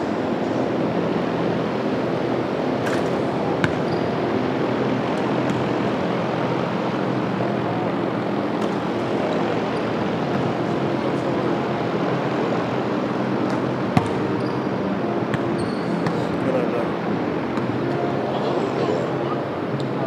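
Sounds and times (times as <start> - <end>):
floor fans humming: 0.0 - 20.0.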